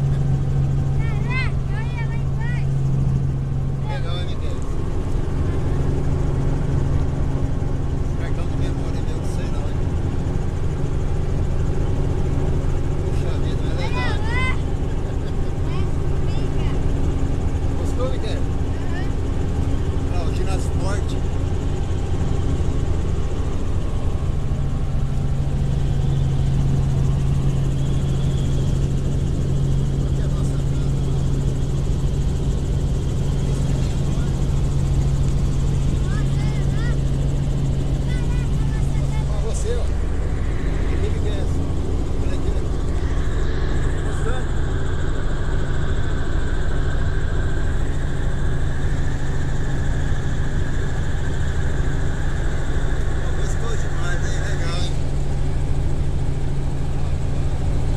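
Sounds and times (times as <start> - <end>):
helicopter rotor rumble: 0.0 - 57.9.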